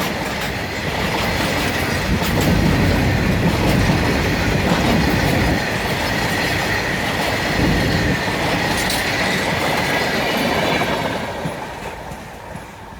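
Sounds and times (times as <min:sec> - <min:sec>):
train wagons rolling on rails: 0:00.0 - 0:12.9.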